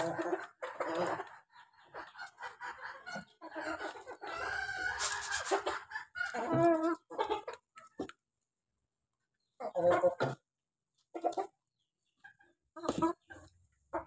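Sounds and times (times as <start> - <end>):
chickens clucking and squawking: 0.0 - 8.5, 9.2 - 14.0.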